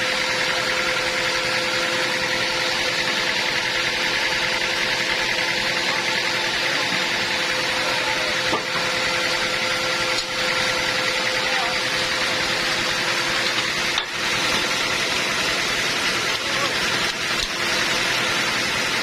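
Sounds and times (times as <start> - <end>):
sawmill machinery humming: 0.0 - 19.0.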